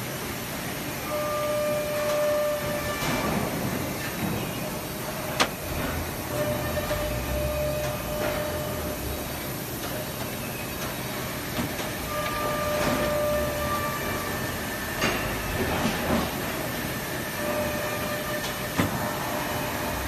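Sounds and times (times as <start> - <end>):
workshop background noise: 0.0 - 20.0.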